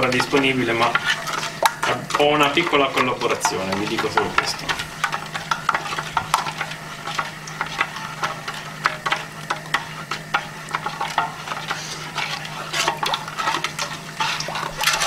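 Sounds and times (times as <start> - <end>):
sugar grains grating: 0.0 - 15.0
utensil scraping pan bottom: 0.0 - 15.0.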